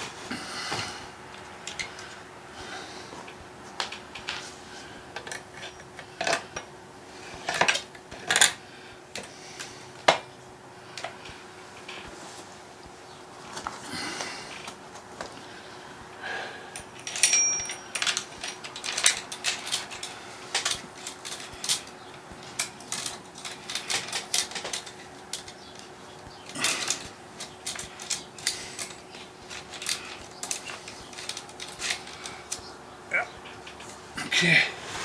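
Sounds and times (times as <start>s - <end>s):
small hard parts clicking and rattling: 0.7s - 2.3s, 3.1s - 12.2s, 13.0s - 34.6s.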